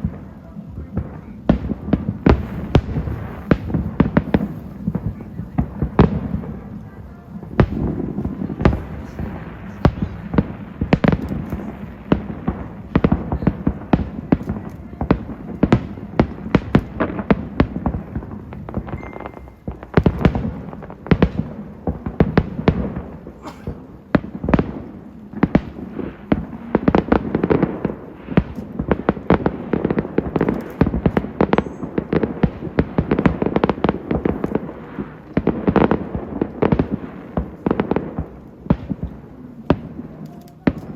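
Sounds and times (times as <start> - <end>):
fireworks bangs and crackles: 0.0 - 40.9
rumble of bursting shells: 0.0 - 40.9.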